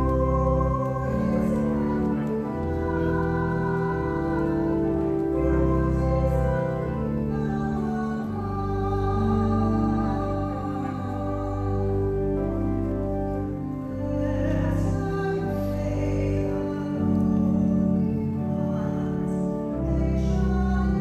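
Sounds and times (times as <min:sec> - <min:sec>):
congregation singing a hymn: 0:00.0 - 0:21.0
keyboard accompaniment: 0:00.0 - 0:21.0.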